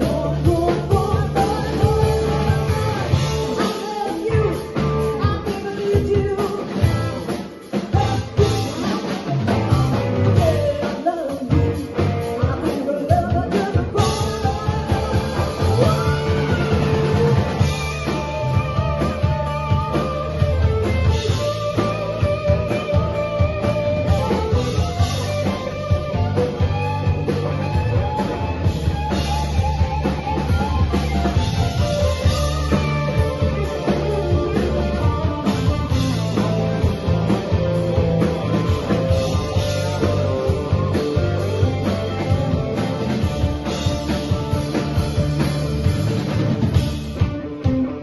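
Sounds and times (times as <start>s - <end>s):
drum kit: 0.0s - 48.0s
electric guitar: 0.0s - 48.0s
stage keyboard: 0.0s - 48.0s.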